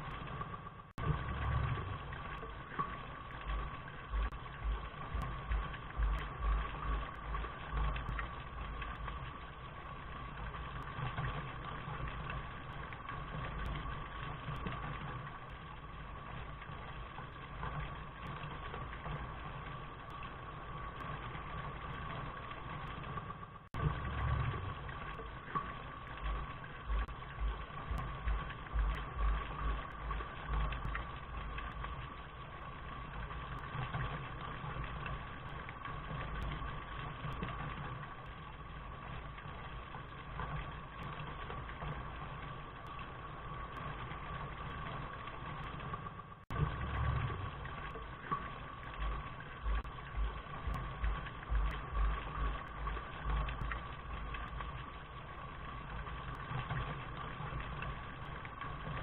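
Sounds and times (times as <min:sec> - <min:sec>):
low uneven rumble: 0:00.0 - 0:59.0
steady rain: 0:00.0 - 0:59.0.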